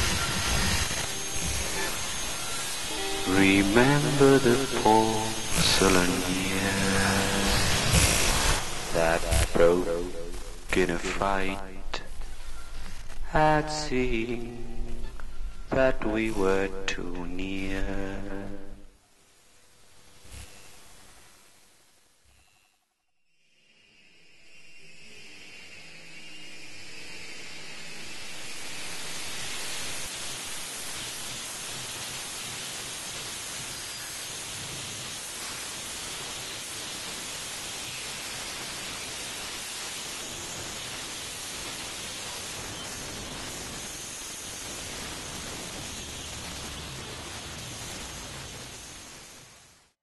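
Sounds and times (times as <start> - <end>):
static-like hiss: 0.0 - 50.0.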